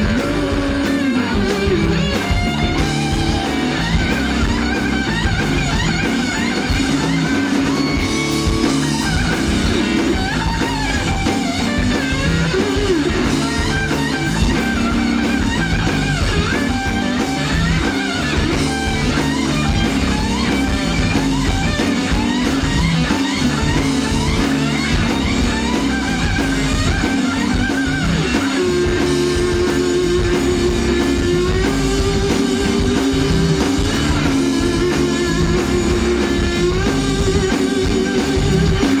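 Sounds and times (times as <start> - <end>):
bass guitar: 0.0 - 39.0
drum kit: 0.0 - 39.0
electric guitar lead: 0.0 - 39.0.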